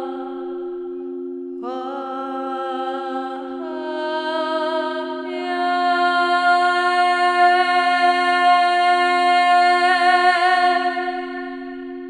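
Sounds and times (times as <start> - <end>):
steady two-note drone: 0.0 - 12.0.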